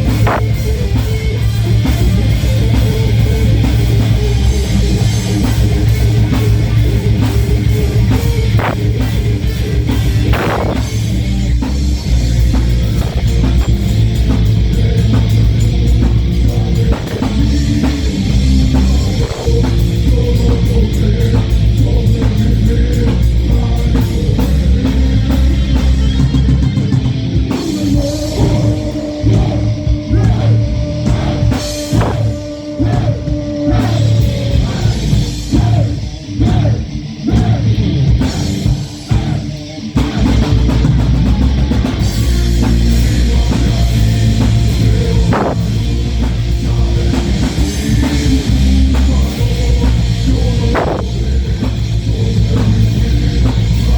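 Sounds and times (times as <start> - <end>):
heavy metal band playing live: 0.0 - 53.9.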